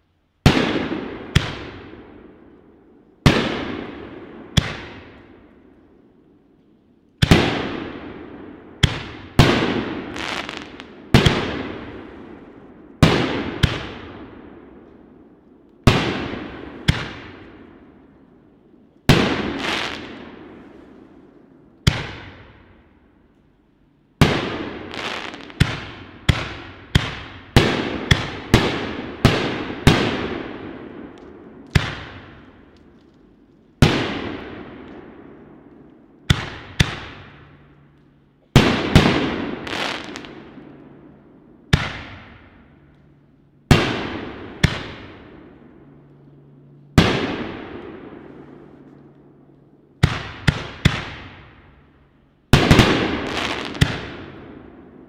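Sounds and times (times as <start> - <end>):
firework bangs with rolling echo: 0.4 - 5.6, 7.2 - 18.2, 19.0 - 21.2, 21.8 - 22.8, 24.2 - 37.7, 38.5 - 42.8, 43.6 - 46.0, 46.9 - 49.0, 50.0 - 51.8, 52.5 - 55.0.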